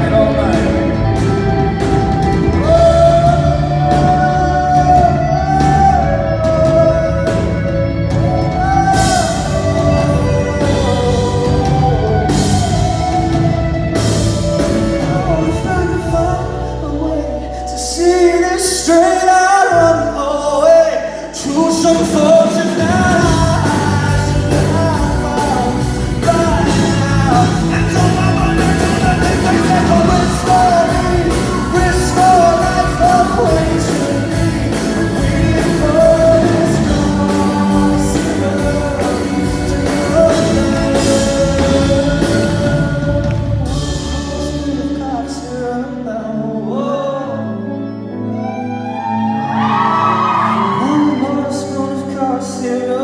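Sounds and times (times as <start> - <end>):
drums: 0.0 - 20.0, 21.2 - 46.1
bass guitar: 0.0 - 53.0
live rock band: 0.0 - 53.0
person singing: 0.0 - 53.0.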